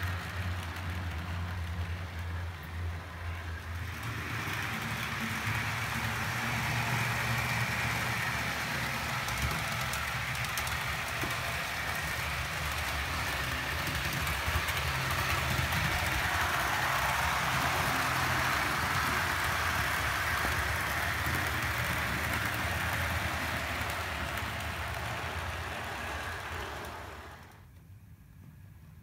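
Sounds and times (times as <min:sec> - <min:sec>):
wheels rumbling on rail: 0:00.0 - 0:27.7.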